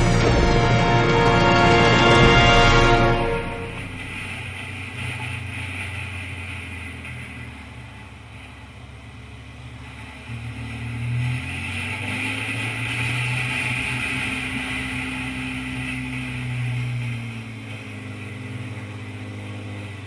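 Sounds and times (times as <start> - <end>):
motorcycle engine hum: 2.1 - 20.0.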